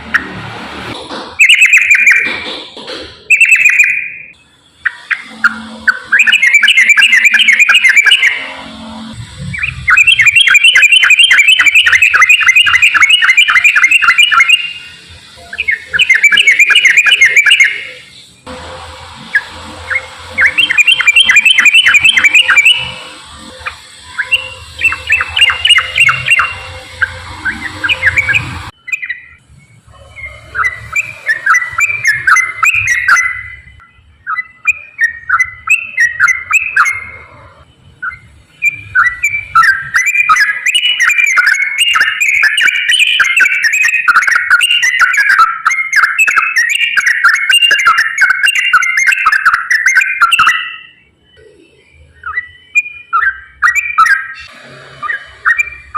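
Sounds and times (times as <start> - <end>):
bird singing rolling chatter: 1.2 - 55.9.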